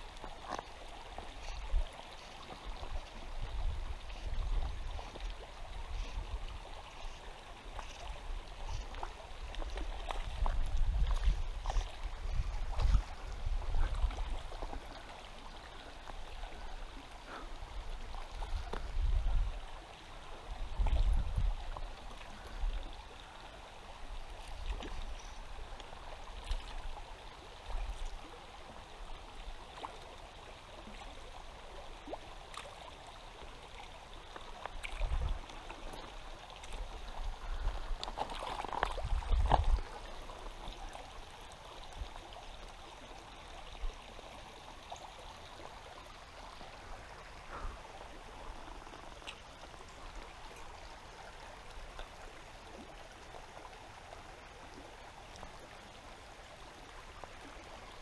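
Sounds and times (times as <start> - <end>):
river water over rocks: 0.0 - 58.0.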